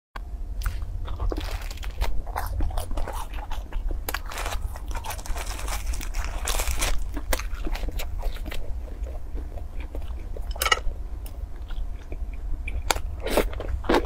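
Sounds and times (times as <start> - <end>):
steady low hum: 0.2 - 14.0
fried dough crackling and crunching: 0.6 - 14.0.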